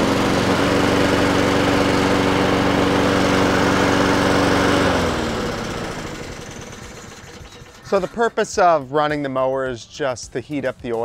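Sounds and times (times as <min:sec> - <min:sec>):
lawn mower engine running: 0:00.0 - 0:08.8.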